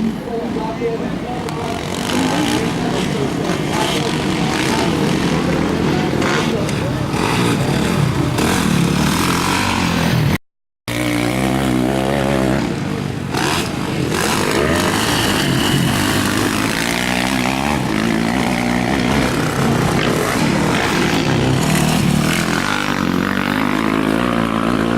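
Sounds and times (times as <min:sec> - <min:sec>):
motocross bike engines revving: 0:00.0 - 0:24.9.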